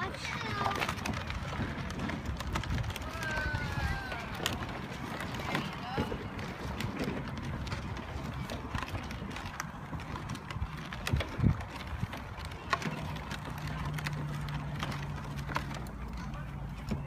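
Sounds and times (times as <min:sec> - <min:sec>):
tractor rolling: 0:00.0 - 0:17.0.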